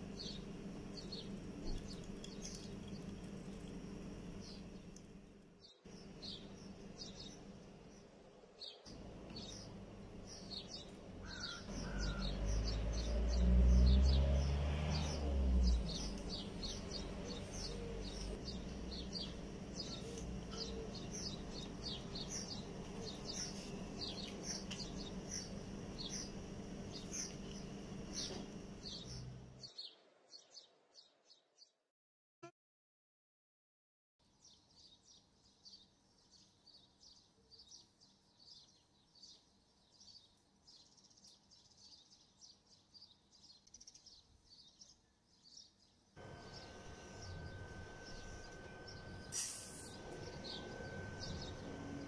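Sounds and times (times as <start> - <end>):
birds chirping: 0.0 - 31.7, 34.4 - 52.0.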